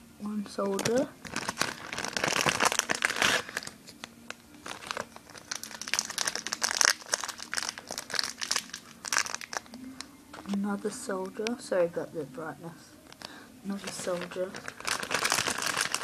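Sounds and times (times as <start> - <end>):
plastic bag crinkling: 0.6 - 10.7, 13.1 - 16.0.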